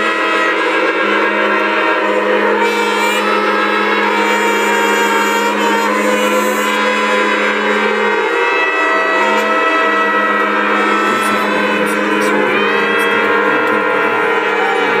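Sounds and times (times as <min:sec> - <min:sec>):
ram's-horn trumpets blowing: 0:00.0 - 0:15.0.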